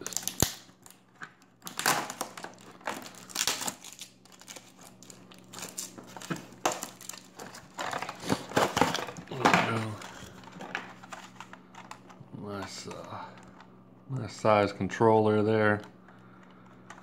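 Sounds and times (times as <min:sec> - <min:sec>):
cardboard and tape crinkling: 0:00.0 - 0:13.7.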